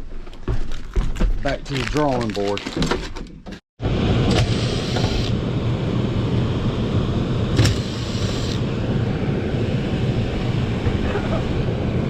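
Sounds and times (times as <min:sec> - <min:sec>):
hvac equipment rumbling: 0:00.0 - 0:12.0.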